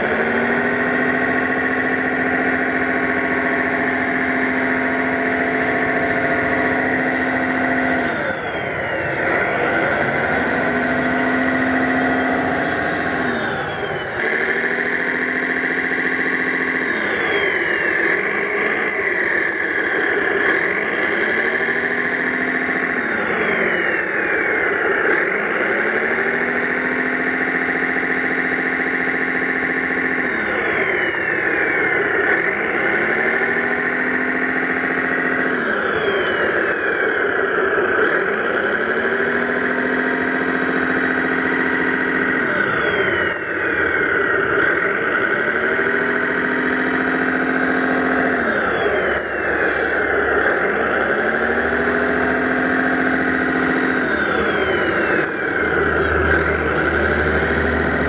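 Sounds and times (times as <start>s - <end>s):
model tractor motors whining: 0.0s - 58.0s.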